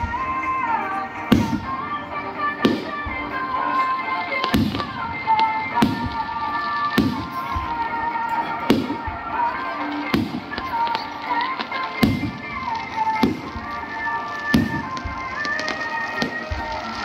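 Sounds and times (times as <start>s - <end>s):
firework shells booming: 0.0s - 17.0s
music playing: 0.0s - 17.0s.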